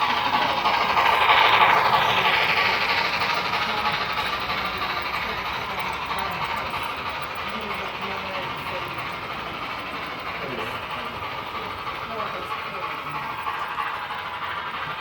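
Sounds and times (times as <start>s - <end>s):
model train rolling rattle: 0.0s - 15.0s.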